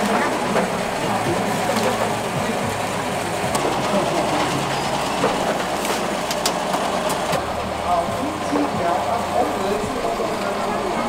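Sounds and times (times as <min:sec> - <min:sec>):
rotisserie motor clatter: 0:00.0 - 0:11.0.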